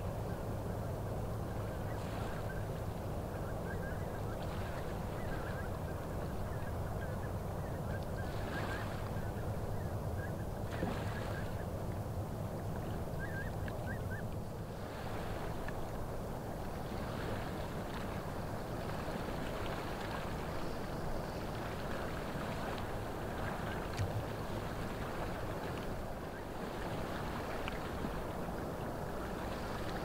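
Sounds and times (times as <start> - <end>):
waterbirds chirping: 0.0 - 30.0.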